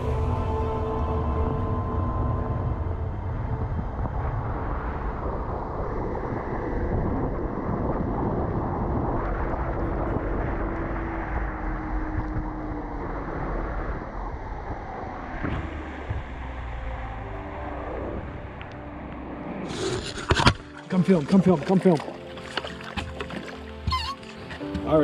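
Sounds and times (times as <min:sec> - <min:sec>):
wind buffeting microphone: 0:00.0 - 0:20.8
boat motor drone: 0:00.0 - 0:25.0
water rushing from wake: 0:00.0 - 0:25.0.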